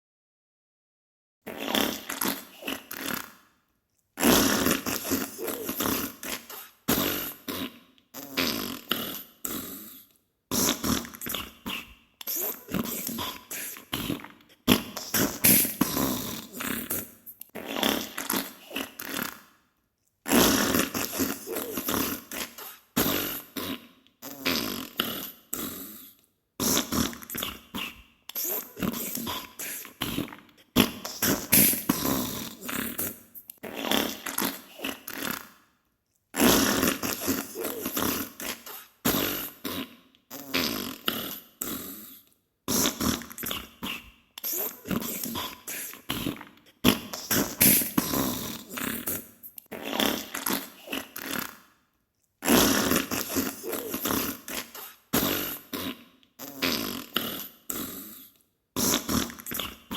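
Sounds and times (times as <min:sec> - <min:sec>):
fart sounds: 0:01.5 - 0:03.6, 0:04.2 - 0:19.6, 0:20.2 - 0:35.7, 0:36.3 - 0:51.7, 0:52.4 - 0:59.9.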